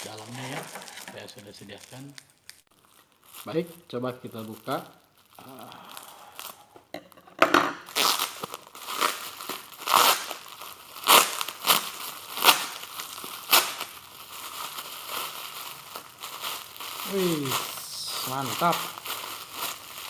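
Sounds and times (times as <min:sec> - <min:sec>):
parcel wrapping tearing and crinkling: 0:00.0 - 0:06.9, 0:07.8 - 0:20.0.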